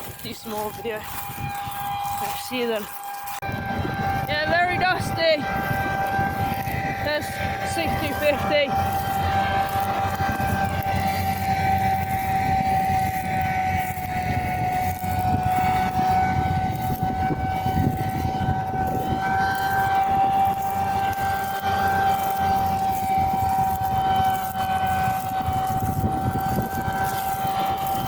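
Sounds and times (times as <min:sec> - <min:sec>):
high-pitched machine whine: 0:00.0 - 0:28.0
low rumbling engine: 0:00.0 - 0:28.0.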